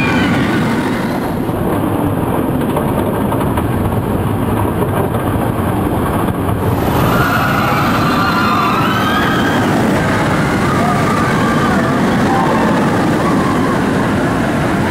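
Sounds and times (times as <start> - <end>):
roller coaster wind and wheel rumble: 0.0 - 14.9.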